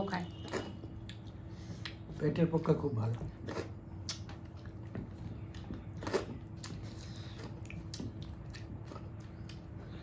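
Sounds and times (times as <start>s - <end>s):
person chewing with wet mouth clicks: 0.4s - 2.1s, 3.5s - 10.0s.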